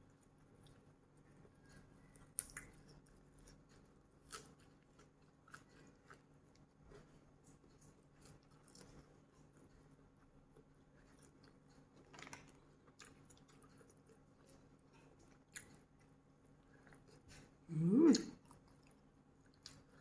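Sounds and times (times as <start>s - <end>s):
person chewing: 0.4s - 17.6s, 18.2s - 20.0s.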